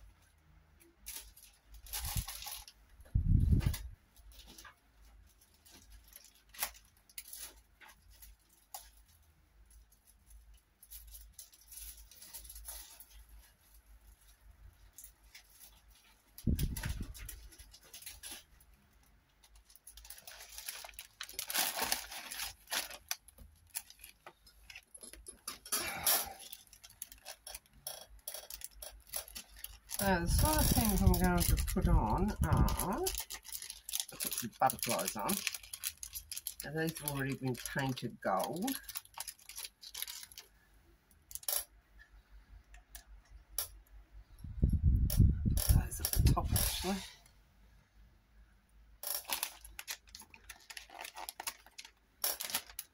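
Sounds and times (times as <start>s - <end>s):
plastic bag rustling: 1.0s - 40.5s, 49.1s - 52.9s.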